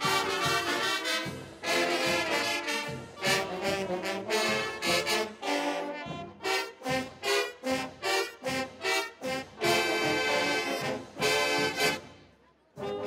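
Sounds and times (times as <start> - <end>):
marching band brass chords: 0.0 - 13.0.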